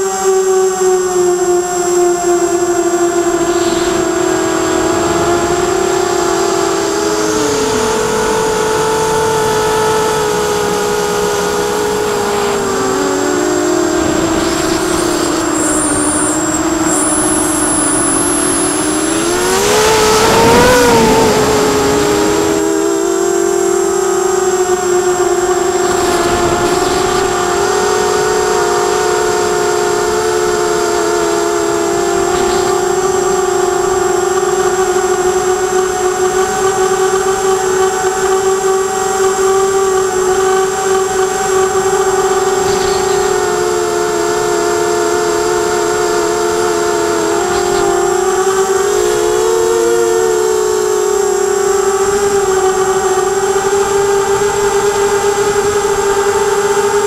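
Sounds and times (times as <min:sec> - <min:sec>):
drone propellers droning: 0:00.0 - 0:57.0
thin high whine: 0:00.0 - 0:57.0.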